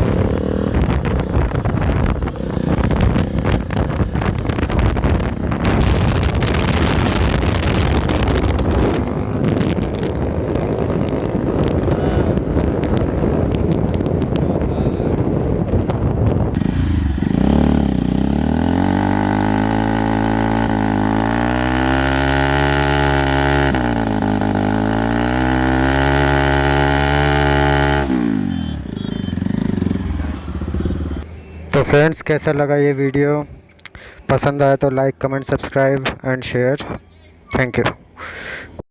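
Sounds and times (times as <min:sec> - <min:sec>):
motorcycle engine revving: 0:00.0 - 0:31.3.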